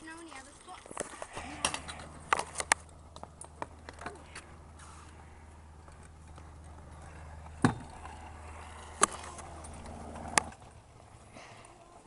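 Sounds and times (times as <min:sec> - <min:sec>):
scooter clacking on concrete: 0:00.0 - 0:12.0
scooter rolling on concrete: 0:00.0 - 0:12.0.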